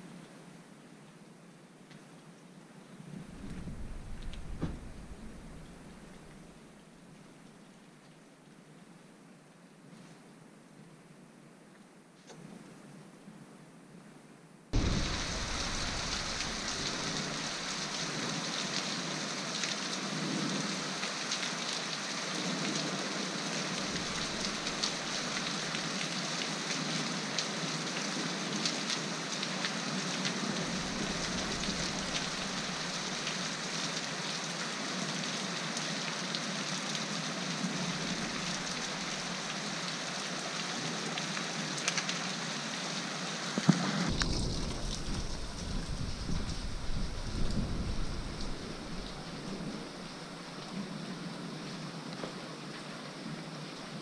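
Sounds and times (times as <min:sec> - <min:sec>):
rain on cobbles and stone roofs: 0:00.0 - 0:11.0, 0:14.7 - 0:54.0.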